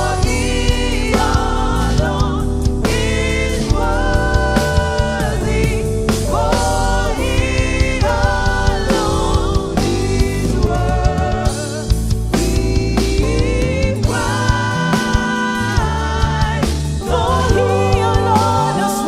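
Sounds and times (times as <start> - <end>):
band with drums: 0.0 - 19.0.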